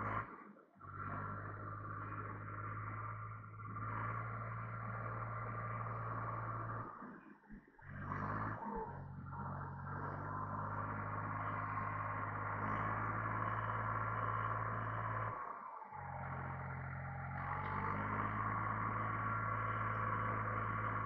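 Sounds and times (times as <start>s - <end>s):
tractor engine running under load: 0.0s - 0.2s, 0.8s - 6.9s, 7.8s - 21.0s.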